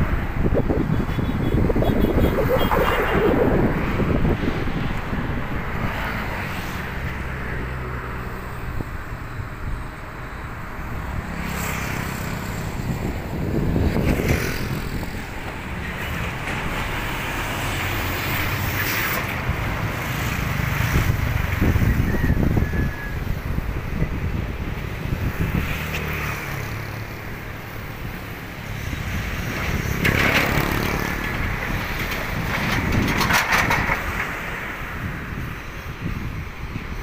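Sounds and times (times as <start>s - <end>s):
wind on the microphone: 0.0s - 37.0s.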